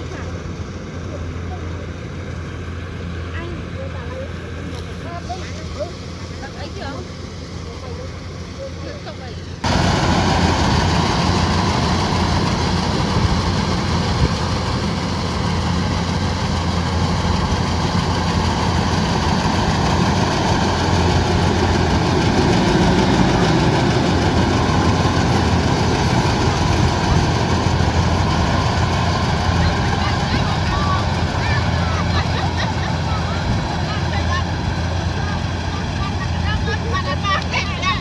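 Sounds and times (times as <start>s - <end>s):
combine harvester engine droning: 0.0s - 38.0s.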